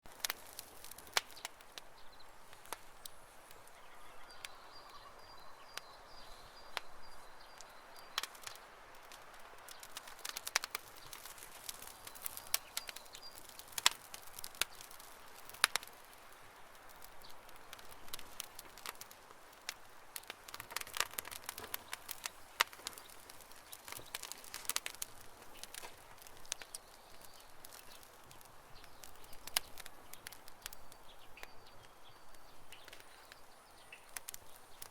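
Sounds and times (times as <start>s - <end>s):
sharp pops and snaps: 0.0s - 3.8s, 5.7s - 34.9s
campfire crackling: 0.0s - 34.9s.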